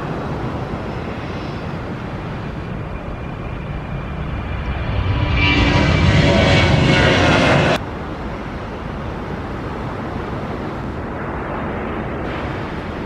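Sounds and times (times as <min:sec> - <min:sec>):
jet engines at takeoff thrust: 0:00.0 - 0:13.0
quieter jet engine noise: 0:00.0 - 0:13.0.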